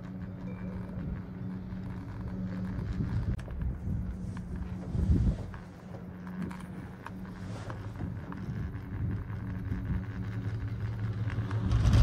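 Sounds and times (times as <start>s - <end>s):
cable car gondola hum: 0.0s - 12.0s
light clicks and creaks: 0.0s - 12.0s.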